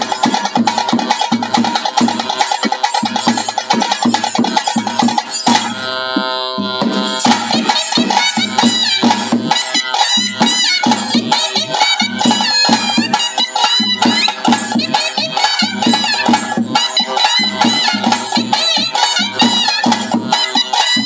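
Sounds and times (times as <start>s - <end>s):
fast drumming: 0.0s - 21.0s
reed wind instrument melody: 0.0s - 21.0s.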